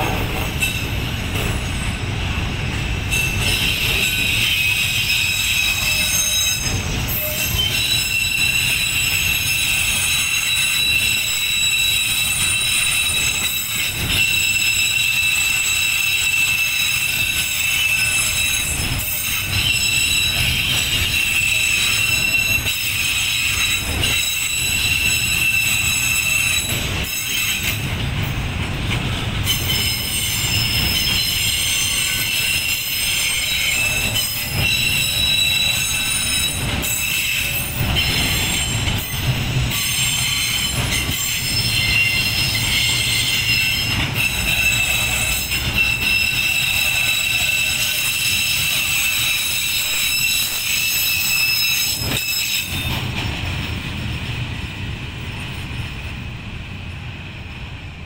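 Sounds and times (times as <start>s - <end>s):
train wheels rumbling on rails: 0.0s - 58.0s
high-pitched wheel squeal: 3.1s - 27.9s, 29.4s - 53.0s.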